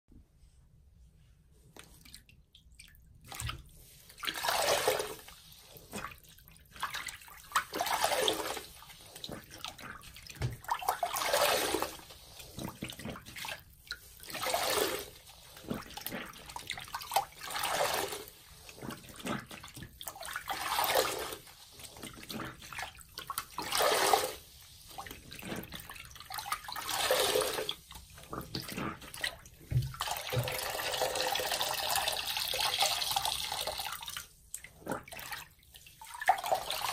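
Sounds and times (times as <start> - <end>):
sponge squeezed water splashing: 1.8 - 36.9.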